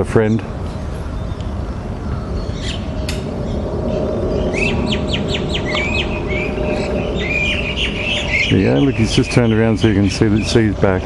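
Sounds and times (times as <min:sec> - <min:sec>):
low background rumble: 0:00.1 - 0:11.0
bird chirping rapidly: 0:00.8 - 0:11.0.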